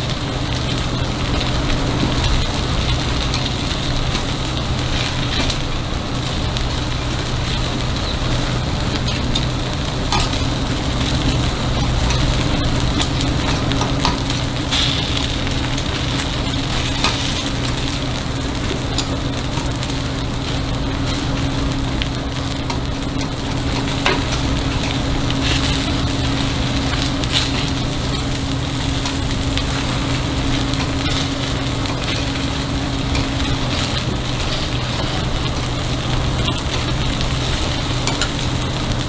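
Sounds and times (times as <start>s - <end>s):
batter sizzling in a pan: 0.0s - 39.0s.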